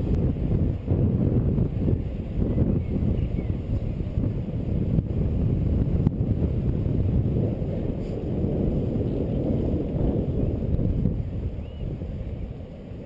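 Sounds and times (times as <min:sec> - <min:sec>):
skate wheels rolling on asphalt: 0:00.0 - 0:13.0
wind buffeting microphone: 0:00.0 - 0:13.0.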